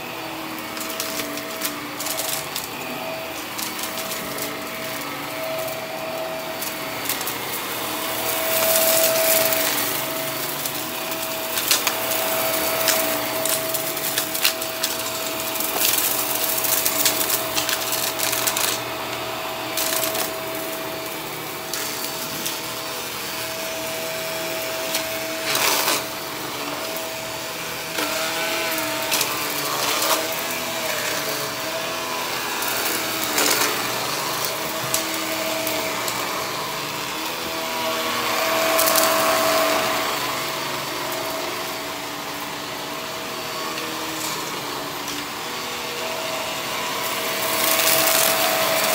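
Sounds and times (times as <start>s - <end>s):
vacuum motor whine: 0.0s - 48.9s.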